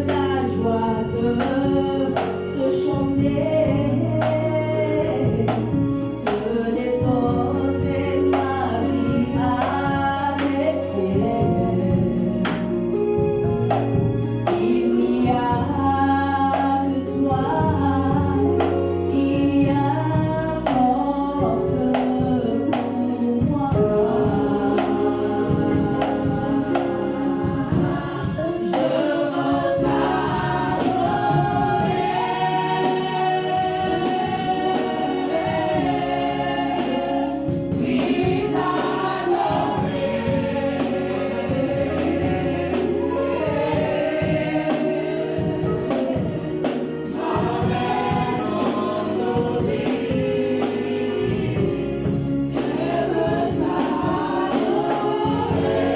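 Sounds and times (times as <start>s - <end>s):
band accompaniment: 0.0s - 55.9s
gospel choir singing: 0.0s - 55.9s.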